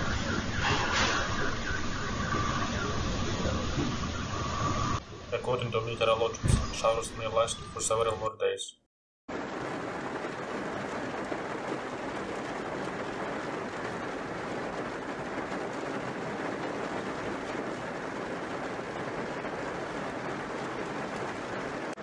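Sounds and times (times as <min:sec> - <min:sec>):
heavy rain on a car roof: 0:00.0 - 0:06.6, 0:09.3 - 0:22.0.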